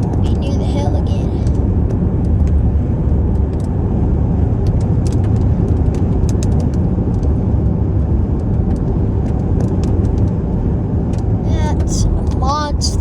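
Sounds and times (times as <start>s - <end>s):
car driving low rumble: 0.0s - 13.0s
raindrops hitting car: 0.2s - 13.0s.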